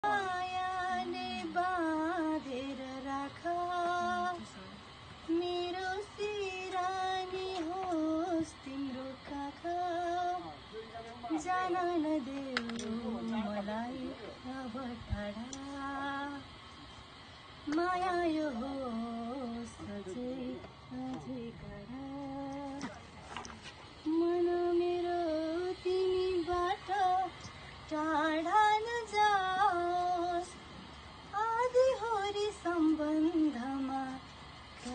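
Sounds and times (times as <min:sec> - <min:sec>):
woman singing slow melody: 0:00.0 - 0:10.6, 0:11.3 - 0:23.1, 0:24.0 - 0:34.9.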